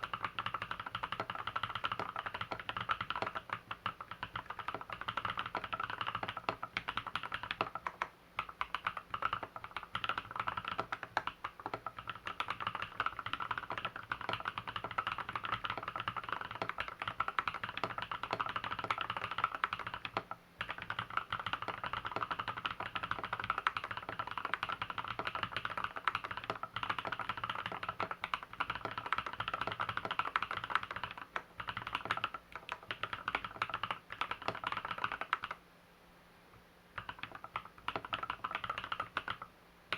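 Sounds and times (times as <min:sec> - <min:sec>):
mechanical keyboard typing: 0:00.0 - 0:35.6, 0:36.9 - 0:39.5.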